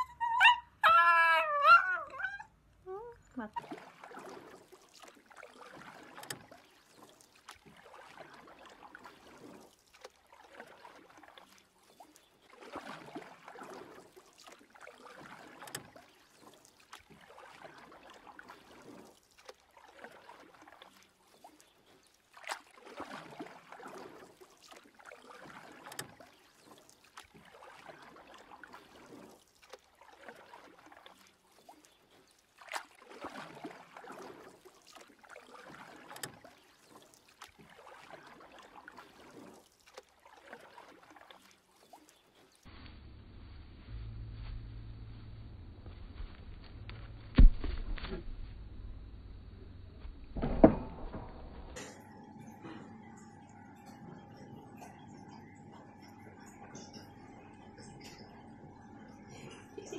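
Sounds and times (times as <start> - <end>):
water sloshing in paddling pool: 0.0 - 42.9, 45.8 - 59.9.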